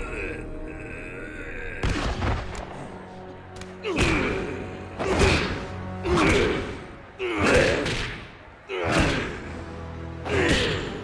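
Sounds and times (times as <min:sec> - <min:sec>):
dramatic background music: 0:00.0 - 0:11.0.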